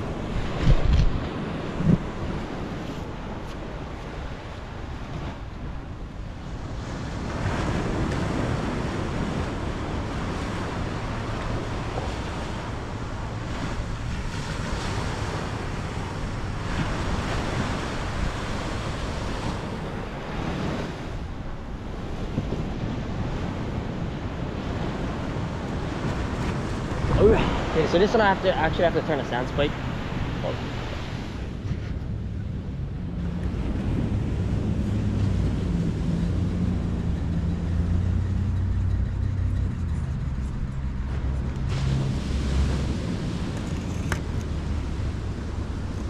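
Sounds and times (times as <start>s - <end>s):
ocean surf washing ashore: 0.0s - 46.0s
wind buffeting microphone: 0.0s - 46.0s.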